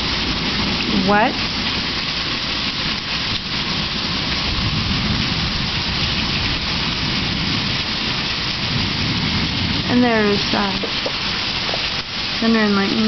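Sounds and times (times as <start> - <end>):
heavy rain pouring: 0.0 - 13.0
stormy wind: 0.0 - 13.0.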